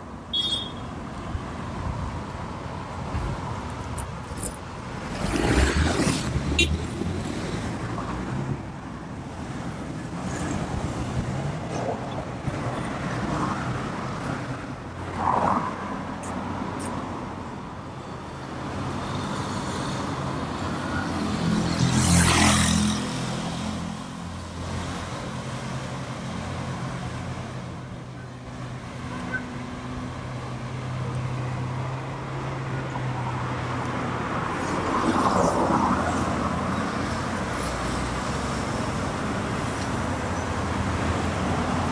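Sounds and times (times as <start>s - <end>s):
vehicles passing: 0.0s - 41.9s.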